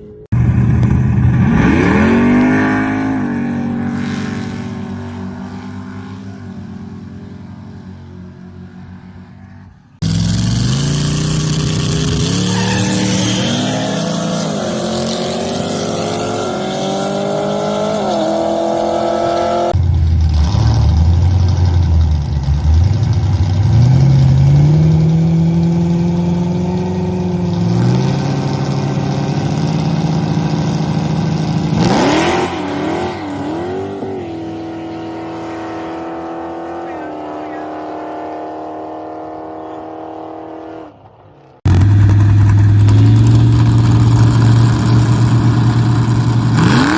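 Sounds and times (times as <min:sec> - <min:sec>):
car engine accelerating through gears: 0:00.0 - 0:46.9.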